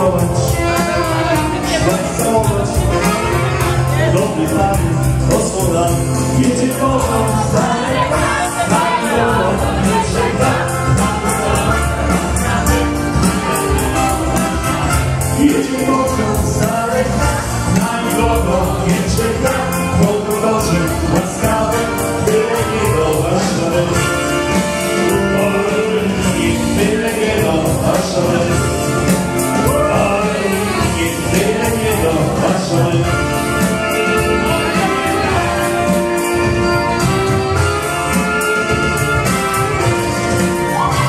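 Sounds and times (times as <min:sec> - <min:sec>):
dance band playing upbeat song: 0:00.0 - 0:41.0
person singing: 0:00.0 - 0:41.0.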